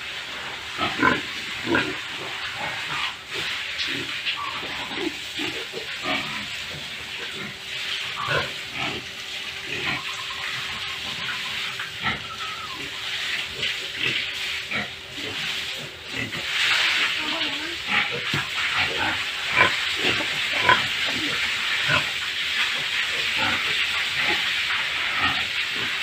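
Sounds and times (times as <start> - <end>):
water spraying from hose: 0.0 - 26.0
pigs grunting and snuffling: 0.4 - 26.0.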